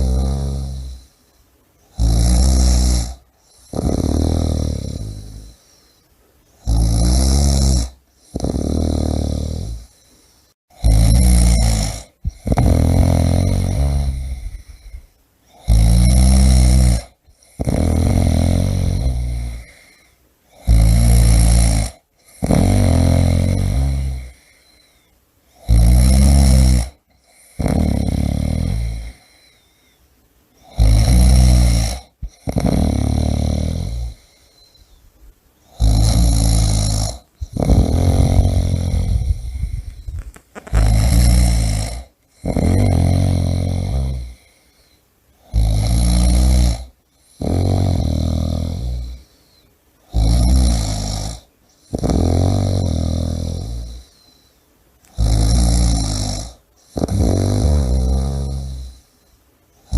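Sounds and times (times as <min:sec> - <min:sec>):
person snoring loudly: 0:00.0 - 0:01.2, 0:01.9 - 0:05.7, 0:06.6 - 0:10.1, 0:10.7 - 0:24.8, 0:25.5 - 0:29.6, 0:30.6 - 0:34.7, 0:35.6 - 0:44.6, 0:45.4 - 0:49.4, 0:50.1 - 0:54.3, 0:55.0 - 0:59.0.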